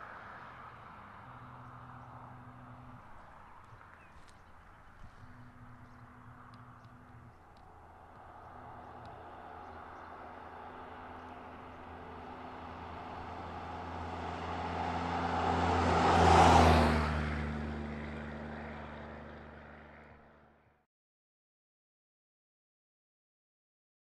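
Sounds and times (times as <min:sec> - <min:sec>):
vehicle passing by: 0:00.0 - 0:20.6.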